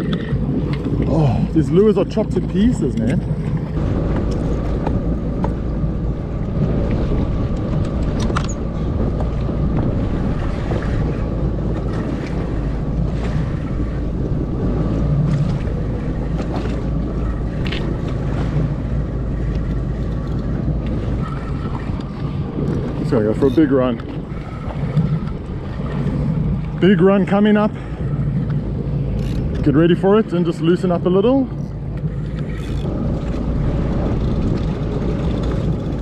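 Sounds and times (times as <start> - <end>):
waves lapping: 0.0 - 36.0
wind buffeting microphone: 0.0 - 36.0.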